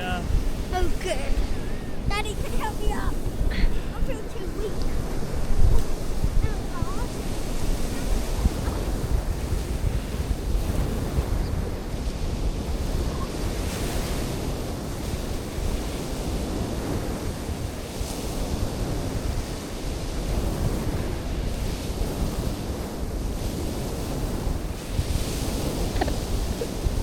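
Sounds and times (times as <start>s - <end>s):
sea waves breaking: 0.0s - 27.0s
wind buffeting microphone: 0.0s - 27.0s.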